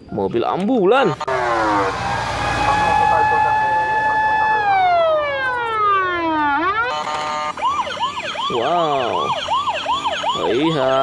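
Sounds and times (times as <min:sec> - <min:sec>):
ambulance siren wailing: 0:01.1 - 0:11.0.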